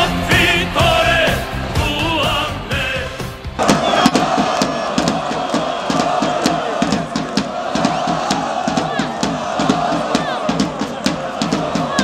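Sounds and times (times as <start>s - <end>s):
background music with singing: 0.0s - 12.0s
football crowd chanting and shouting: 0.0s - 12.0s.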